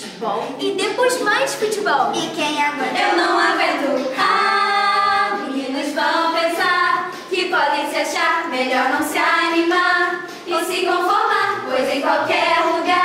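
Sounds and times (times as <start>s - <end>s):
girls and women singing: 2.2s - 13.0s.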